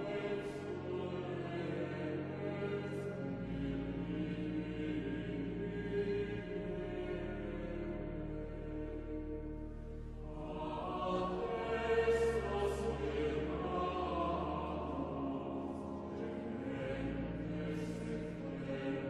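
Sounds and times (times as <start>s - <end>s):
slow choral singing: 0.0s - 19.0s.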